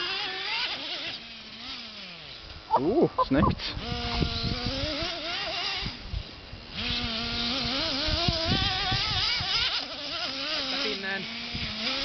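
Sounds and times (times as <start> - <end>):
radio-controlled car motor: 0.0 - 2.7, 3.6 - 12.0.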